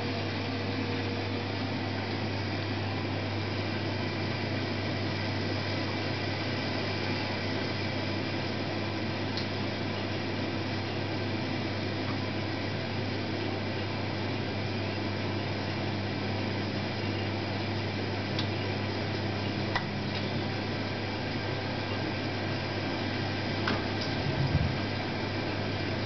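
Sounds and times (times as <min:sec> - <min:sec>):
boiler humming: 0:00.0 - 0:26.0.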